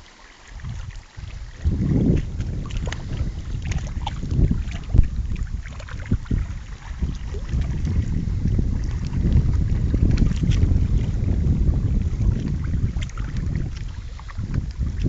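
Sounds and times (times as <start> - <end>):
small waves lapping: 0.0 - 15.0
wind buffeting microphone: 0.5 - 15.0.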